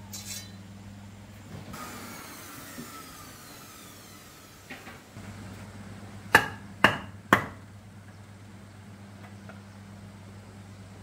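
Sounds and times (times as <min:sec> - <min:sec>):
electric fan hum: 0:00.0 - 0:11.0.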